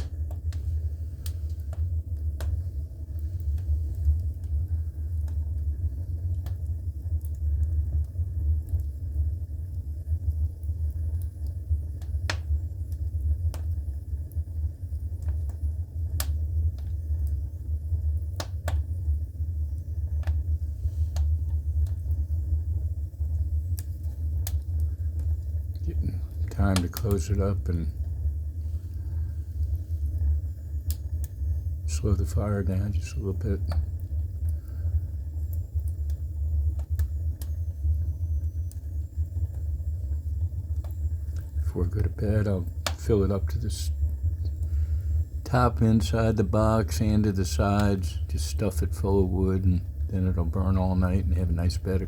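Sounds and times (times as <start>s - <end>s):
steady low rumble: 0.0s - 52.0s
wood fire crackling and popping: 0.0s - 52.0s.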